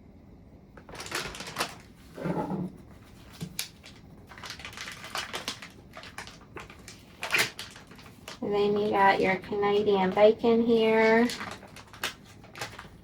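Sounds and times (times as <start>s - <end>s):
plastic packaging crinkling: 0.8s - 2.2s, 2.8s - 13.0s.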